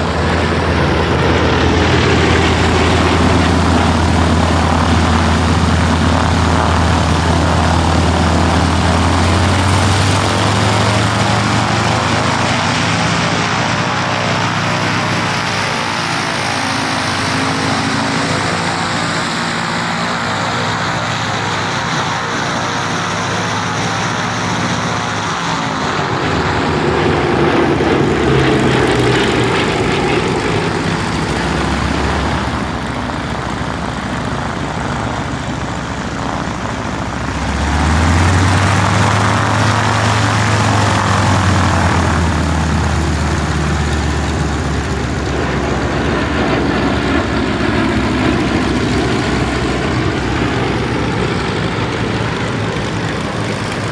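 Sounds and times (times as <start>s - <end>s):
propeller engines droning: 0.0s - 53.9s.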